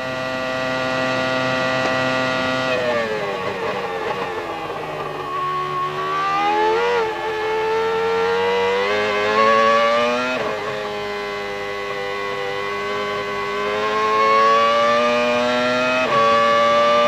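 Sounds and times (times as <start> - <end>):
racing car engine onboard: 0.0 - 17.0.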